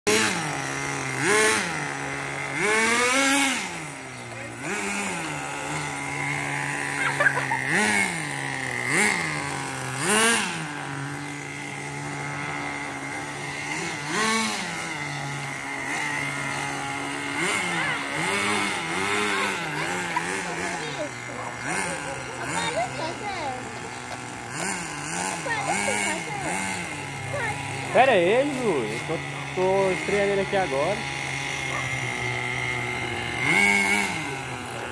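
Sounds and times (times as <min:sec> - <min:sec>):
small two-stroke engine revving: 0:00.0 - 0:34.9.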